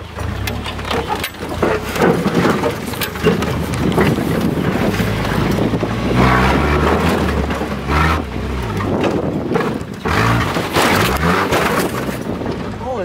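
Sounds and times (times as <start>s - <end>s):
vehicle engine humming: 0.0s - 13.0s
wind noise: 1.0s - 13.0s.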